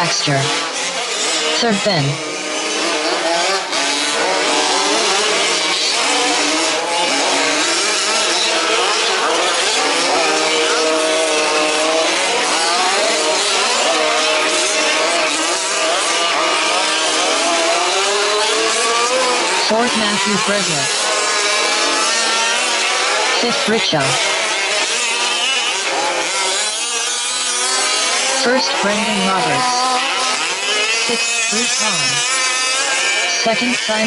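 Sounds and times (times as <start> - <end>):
rc buggy engines revving: 0.0 - 34.0.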